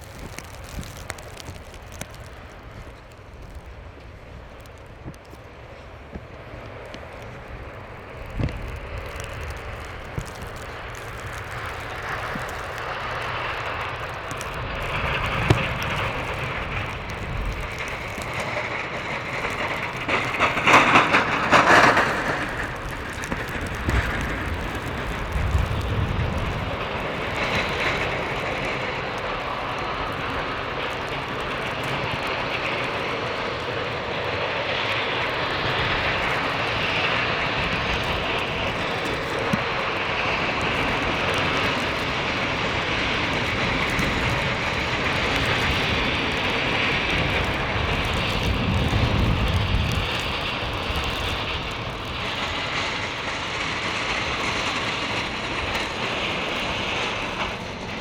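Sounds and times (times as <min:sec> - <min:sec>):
snow-clearing machine engine: 0:00.0 - 0:58.0.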